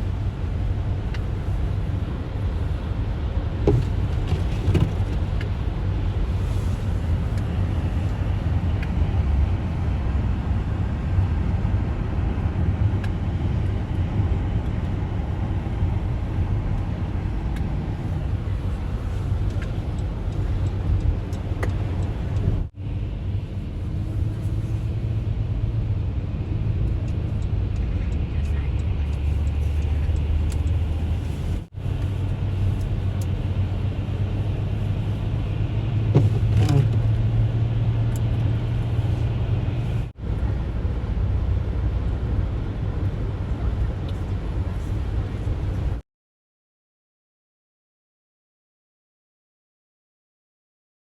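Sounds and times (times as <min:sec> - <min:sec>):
low engine rumble: 0:00.0 - 0:46.0
road and tyre noise: 0:00.0 - 0:46.0.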